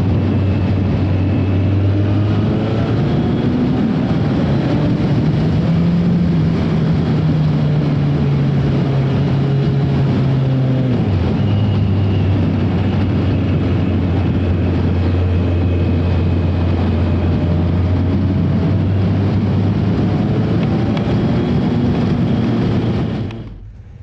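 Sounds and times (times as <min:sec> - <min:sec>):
motorcycle engine cruising: 0:00.0 - 0:23.8
wind and road noise: 0:00.0 - 0:24.0.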